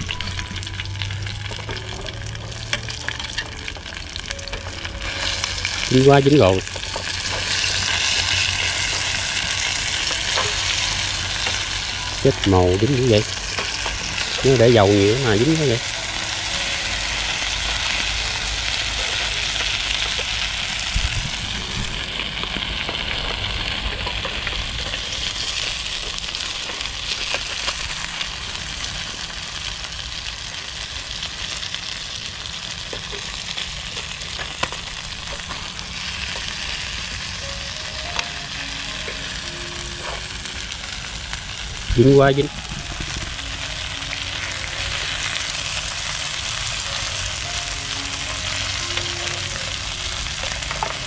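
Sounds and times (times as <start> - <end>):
shrimp sizzling in hot oil: 0.0 - 51.0.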